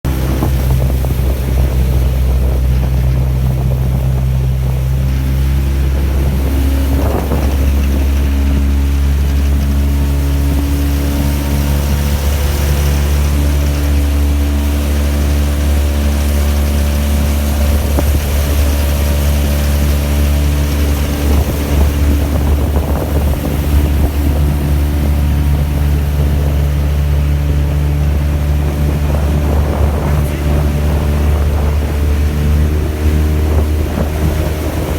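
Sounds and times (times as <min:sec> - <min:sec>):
outboard motor running: 0:00.0 - 0:34.9
water noise: 0:00.0 - 0:34.9
wind on microphone: 0:00.0 - 0:34.9.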